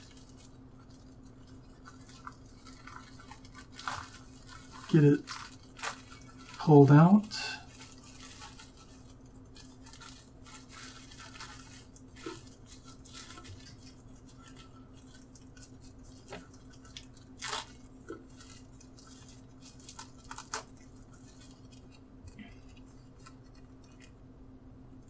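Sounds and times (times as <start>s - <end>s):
plastic bag rustling and crackling: 0.0s - 24.2s.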